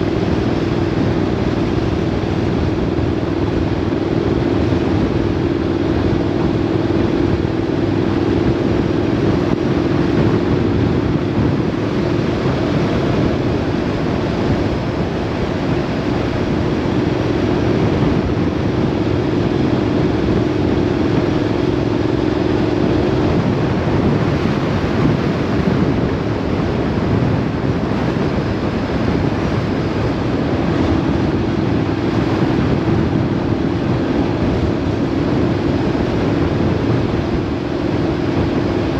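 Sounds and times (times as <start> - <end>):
engine hum: 0.0 - 38.9
wind and road noise: 0.0 - 38.9.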